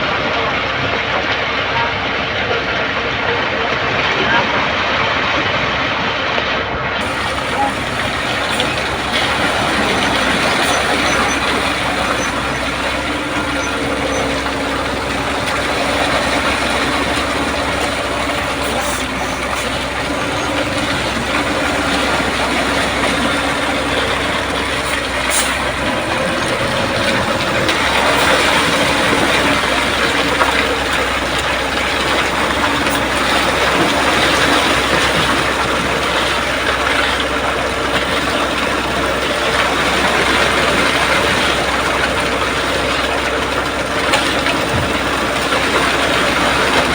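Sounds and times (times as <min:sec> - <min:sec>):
diesel truck engine running: 0:00.0 - 0:46.9
faint steady hums: 0:07.0 - 0:46.9.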